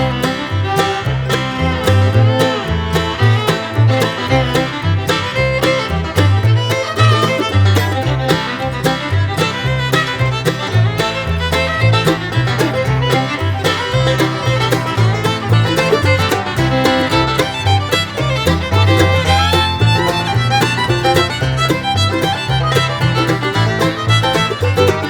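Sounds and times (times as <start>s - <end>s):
upbeat bluegrass instrumental music: 0.0s - 25.0s.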